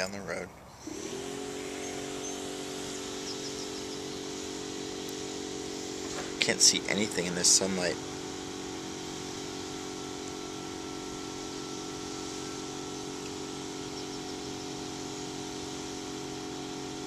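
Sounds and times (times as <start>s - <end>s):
machine hum: 0.7s - 17.0s.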